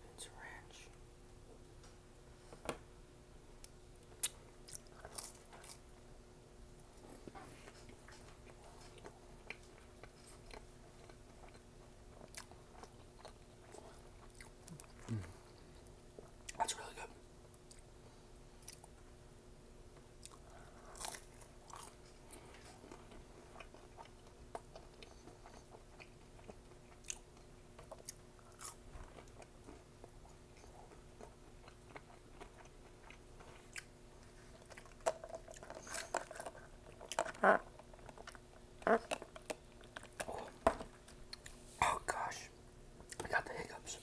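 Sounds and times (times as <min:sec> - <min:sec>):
faint steady hum: 0:00.0 - 0:44.0
chewing and crunching food: 0:03.6 - 0:06.0, 0:06.7 - 0:19.1, 0:19.9 - 0:41.6.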